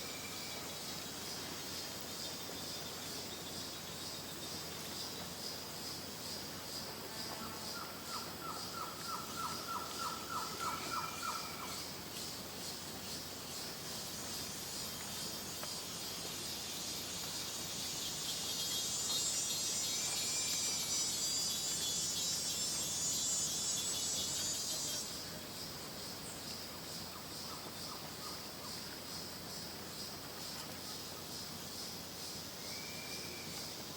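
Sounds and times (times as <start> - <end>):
high insect drone: 0.0 - 33.9
insect chorus: 0.0 - 33.9.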